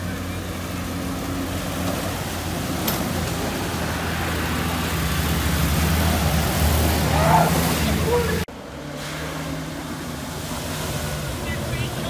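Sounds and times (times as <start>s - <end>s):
jeep engine running: 0.0s - 12.0s
water splashing: 0.0s - 12.0s.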